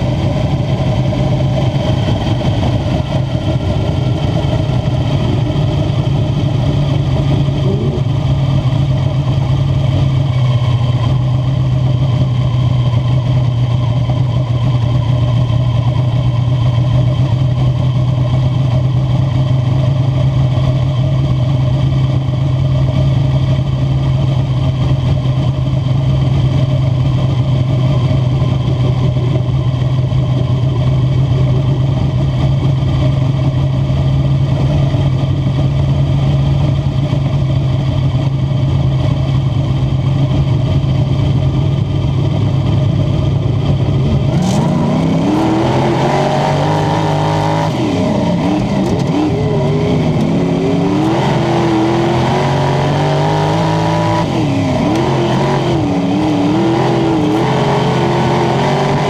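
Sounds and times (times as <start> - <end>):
race car engine running steadily: 0.0 - 59.0.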